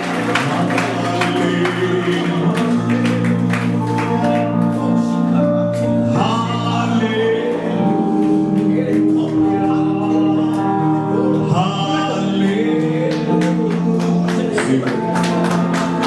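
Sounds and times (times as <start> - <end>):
worship music with singing: 0.0 - 16.0.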